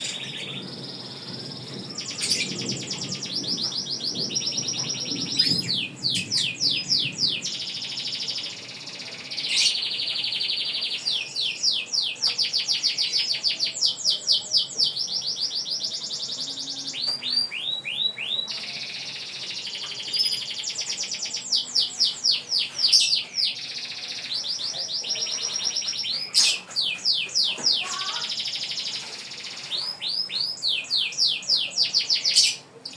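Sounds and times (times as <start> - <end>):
canary singing trills: 0.0 - 32.9.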